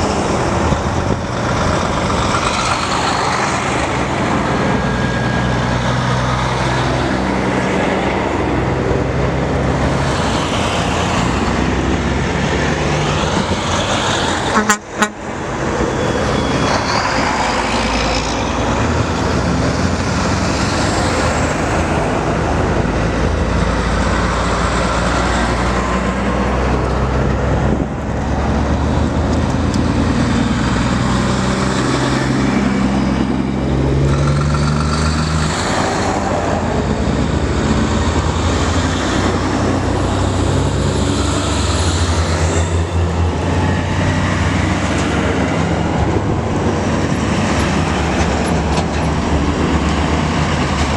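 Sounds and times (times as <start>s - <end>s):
diesel trucks driving by: 0.0s - 50.9s.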